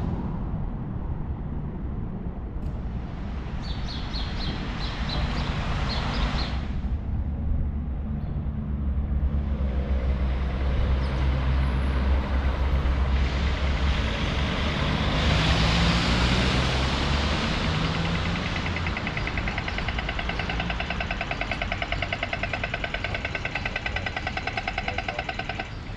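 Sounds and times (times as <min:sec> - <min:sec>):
traffic engine hum: 0:00.0 - 0:25.9
vehicle passing: 0:02.6 - 0:25.9.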